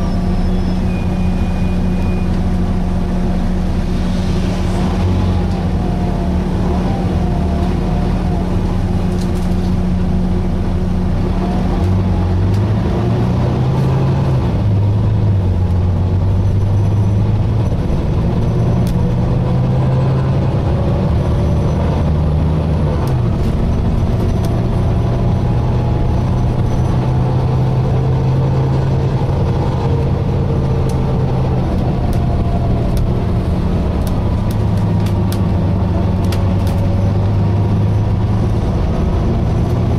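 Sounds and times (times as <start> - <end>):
bus engine changing gears: 0.0 - 39.9.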